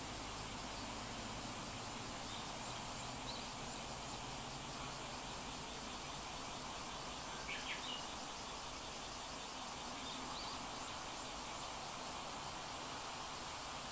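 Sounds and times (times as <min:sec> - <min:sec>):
background hiss: 0:00.0 - 0:13.9.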